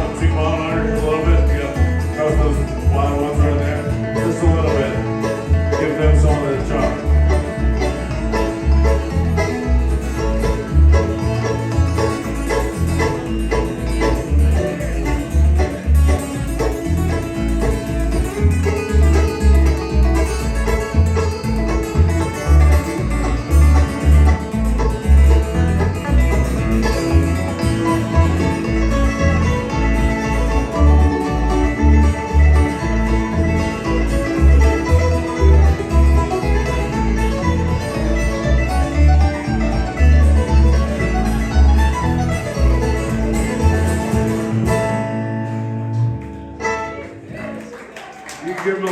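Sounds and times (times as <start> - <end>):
acoustic guitar picking: 0.0 - 47.3
banjo picking: 0.0 - 47.7.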